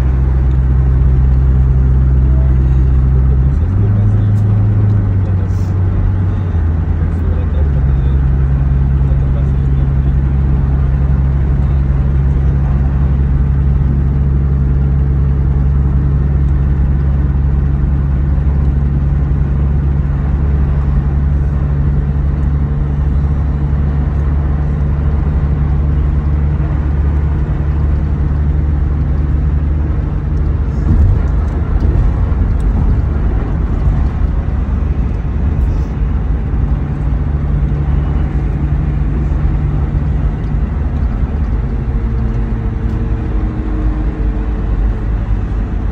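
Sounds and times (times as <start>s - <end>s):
van engine and tyre rumble: 0.0s - 45.9s.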